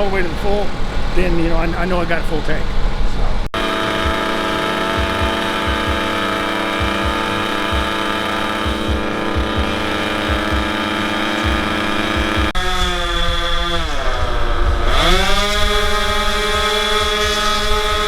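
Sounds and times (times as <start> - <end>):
engine running steadily: 3.5 - 18.0.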